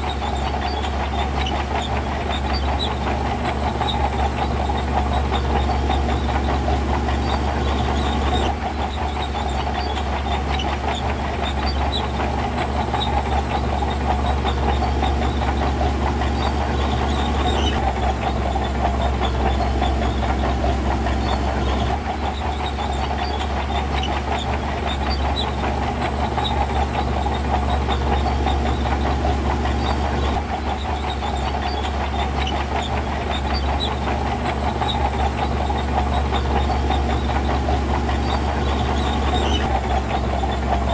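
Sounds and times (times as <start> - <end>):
heavy machinery engine drone: 0.0 - 40.9.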